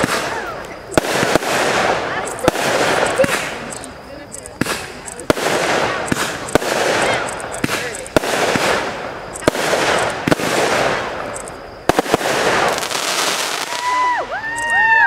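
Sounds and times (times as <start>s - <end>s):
fireworks banging: 0.0s - 15.0s
fireworks crackling: 0.0s - 15.0s.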